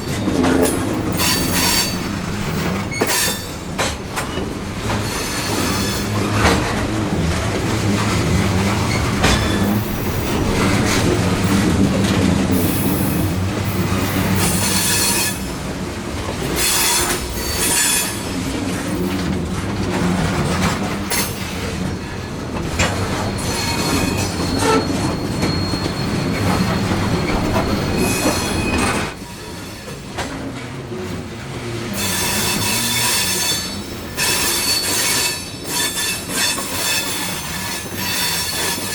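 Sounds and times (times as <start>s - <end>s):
train cars rumbling and clacking: 0.0s - 38.9s
wheels squealing on rails: 0.0s - 38.9s.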